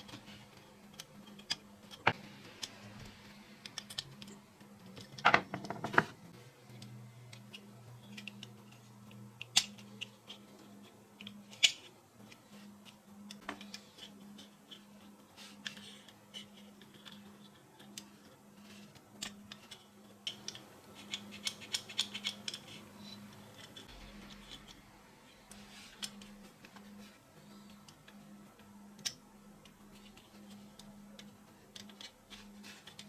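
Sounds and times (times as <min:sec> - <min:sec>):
small parts clicking and tapping: 0:00.0 - 0:24.9, 0:25.5 - 0:33.0
faint steady hum: 0:00.0 - 0:33.0.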